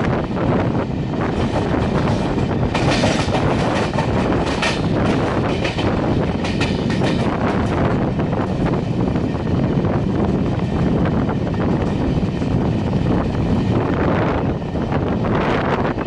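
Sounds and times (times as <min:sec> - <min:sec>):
clickety-clack over rail joints: 0:00.0 - 0:16.0
train wheels rumbling on rails: 0:00.0 - 0:16.0.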